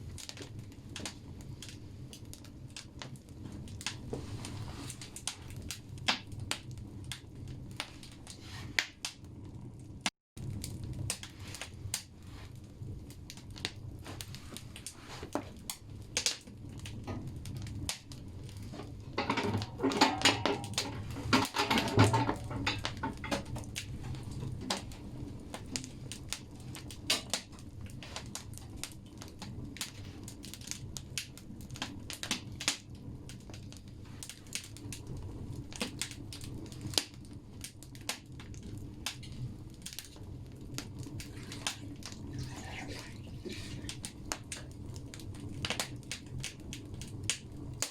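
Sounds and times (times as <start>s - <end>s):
firewood crackling and popping: 0.0s - 47.9s
low steady stove rumble: 0.0s - 47.9s.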